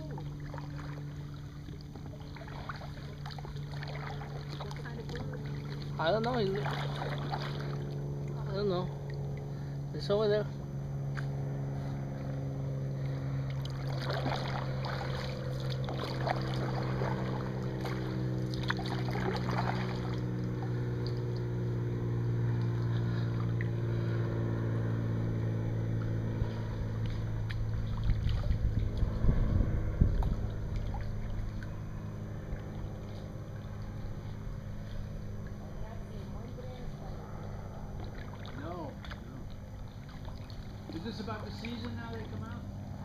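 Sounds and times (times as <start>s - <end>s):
paddles dipping and dripping: 0.0s - 9.9s, 13.0s - 43.0s
low motor hum: 0.0s - 43.0s.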